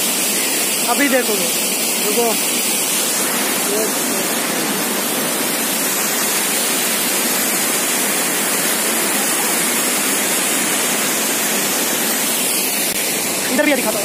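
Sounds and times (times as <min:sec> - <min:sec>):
waterfall pouring over rocks: 0:00.0 - 0:14.0.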